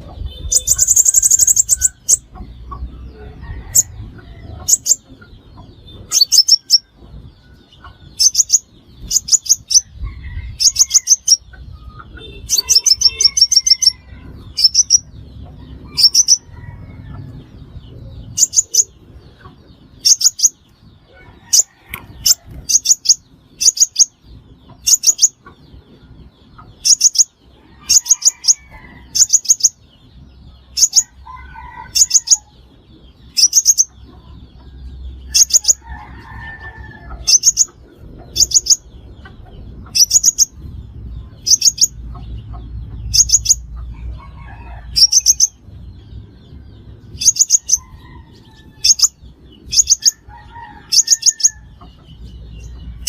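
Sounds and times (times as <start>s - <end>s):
bird high-pitched chirps: 0.0s - 3.9s, 4.5s - 7.0s, 7.6s - 17.3s, 18.2s - 20.8s, 21.5s - 31.2s, 33.2s - 35.8s, 37.2s - 43.8s, 44.9s - 45.8s, 47.1s - 50.3s, 50.9s - 53.0s.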